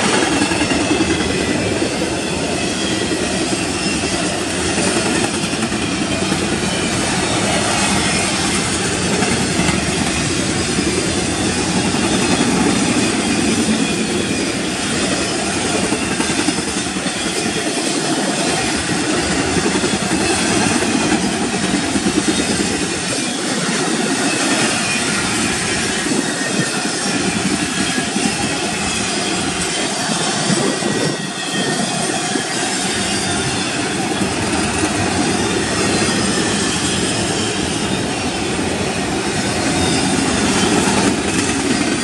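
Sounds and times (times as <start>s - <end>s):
freight train wheels on rails: 0.0s - 42.0s.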